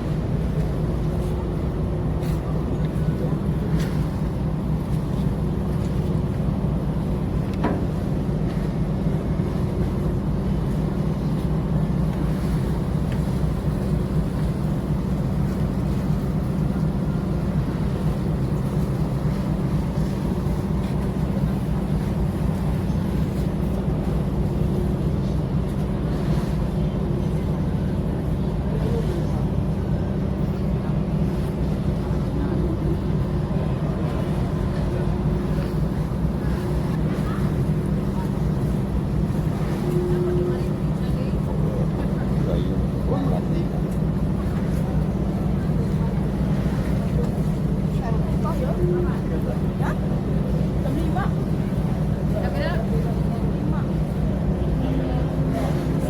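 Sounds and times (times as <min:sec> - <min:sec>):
ferry engines droning: 0:00.0 - 0:56.0.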